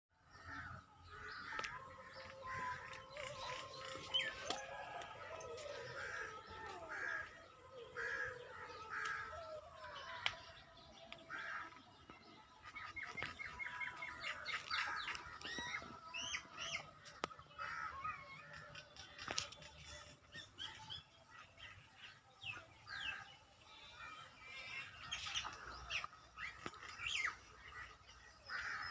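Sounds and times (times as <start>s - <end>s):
birds chirping and calling: 0.2s - 28.9s.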